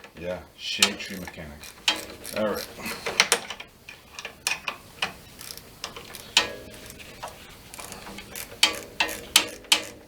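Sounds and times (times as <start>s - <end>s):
metal tools clinking: 0.8s - 10.0s.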